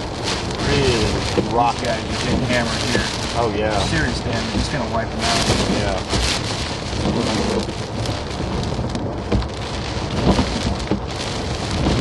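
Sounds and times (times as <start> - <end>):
driving rain: 0.0 - 12.0
hurricane wind: 0.0 - 12.0.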